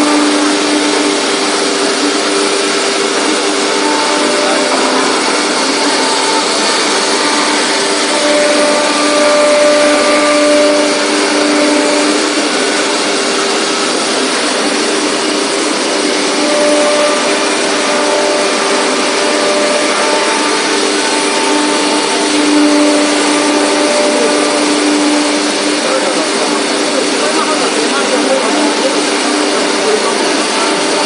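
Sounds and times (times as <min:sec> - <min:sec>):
drilling machine whirring: 0:00.0 - 0:31.0
machine tones: 0:00.0 - 0:31.0.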